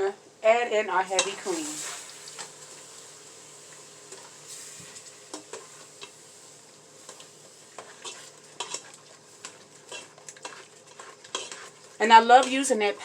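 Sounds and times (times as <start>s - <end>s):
faint steady sizzle: 0.0s - 13.0s
spatula scraping in a pan: 1.1s - 13.0s.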